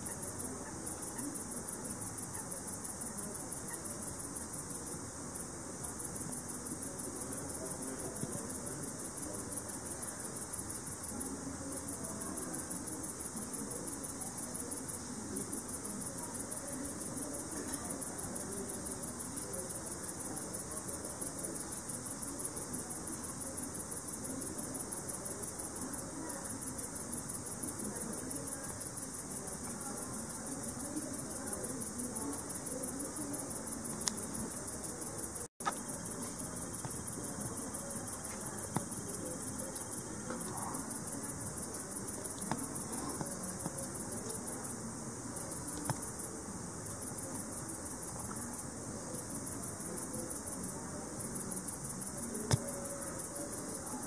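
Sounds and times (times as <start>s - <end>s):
bush cricket stridulating: 0.0s - 54.0s.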